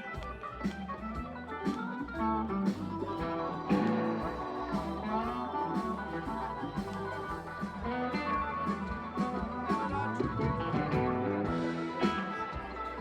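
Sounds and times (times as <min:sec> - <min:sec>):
bass guitar: 0:00.0 - 0:13.0
bending guitar lead: 0:00.0 - 0:13.0
drums keeping a beat: 0:00.0 - 0:13.0.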